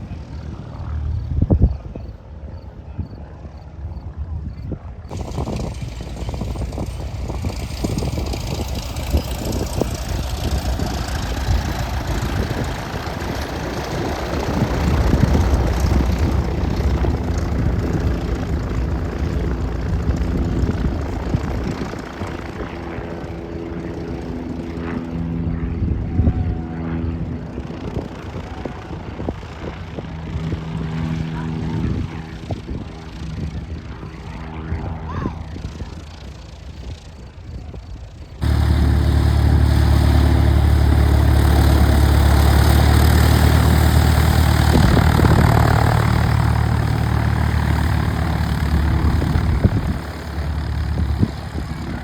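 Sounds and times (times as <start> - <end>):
propeller airplane engine drone: 0.0 - 52.0.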